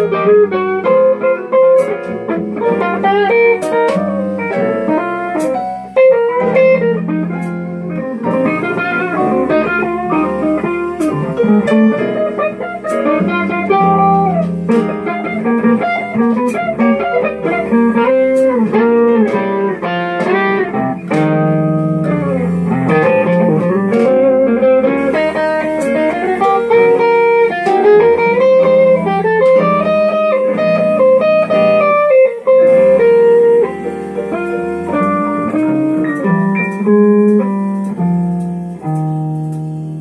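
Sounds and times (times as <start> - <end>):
electric guitar lead melody: 0.0 - 40.0.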